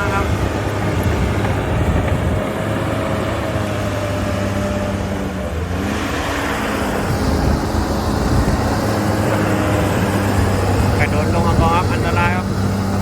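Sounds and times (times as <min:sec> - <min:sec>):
bulldozer diesel engine revving: 0:00.0 - 0:13.0.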